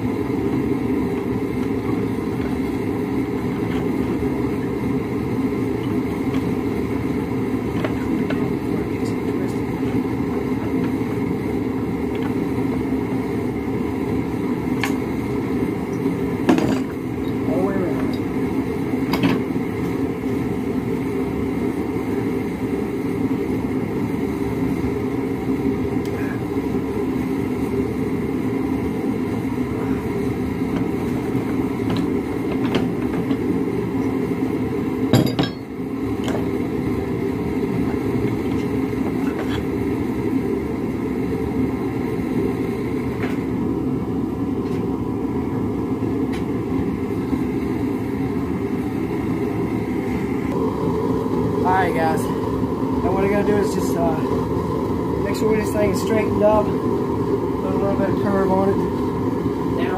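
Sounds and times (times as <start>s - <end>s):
low roar of shop equipment: 0.0s - 59.9s.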